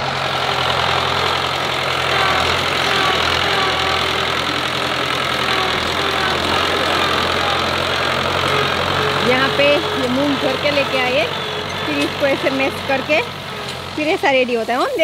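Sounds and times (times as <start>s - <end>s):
tractor engine running at low revs: 0.0s - 15.0s.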